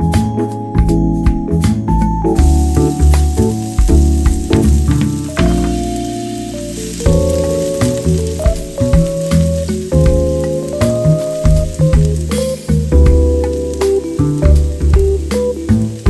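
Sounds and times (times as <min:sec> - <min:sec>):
background music with beat: 0:00.0 - 0:16.0
garlic sizzling in oil: 0:02.4 - 0:16.0.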